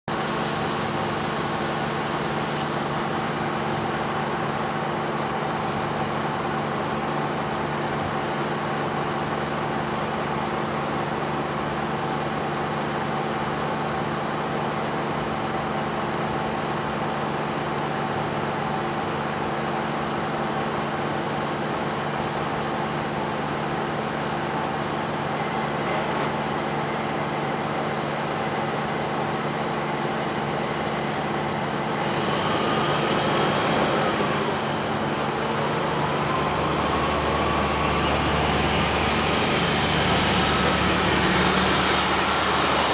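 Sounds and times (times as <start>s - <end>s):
mechanical drone with low hum: 0.1s - 42.9s.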